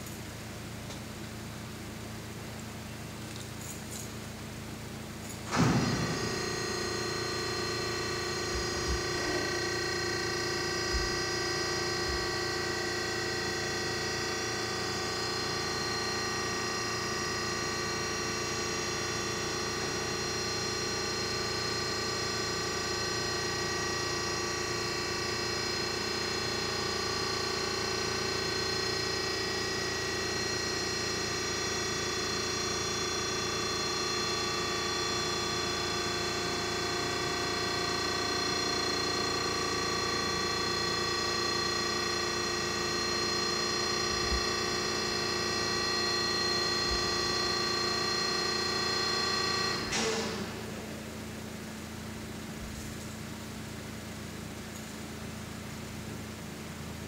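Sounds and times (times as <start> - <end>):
hydraulic motor and pump hum: 0.0 - 57.0.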